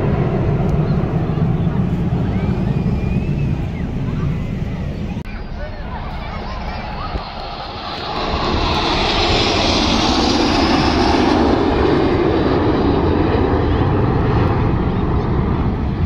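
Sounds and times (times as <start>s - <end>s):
jet engines passing: 0.0s - 16.0s.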